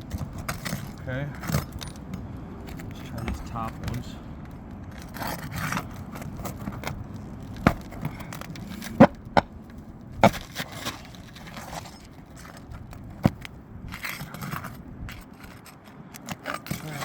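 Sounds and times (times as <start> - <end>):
asphalt shingles cracking: 0.0 - 17.0
scraping on shingles: 0.0 - 17.0.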